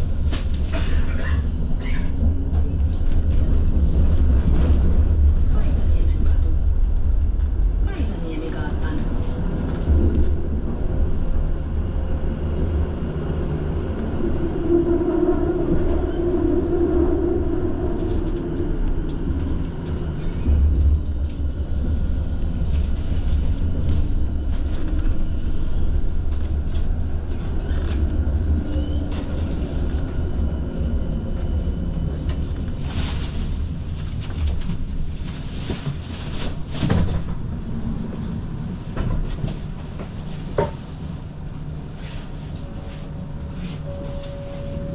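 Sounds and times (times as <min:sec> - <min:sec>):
tram wheels and motors rumbling: 0:00.0 - 0:44.9.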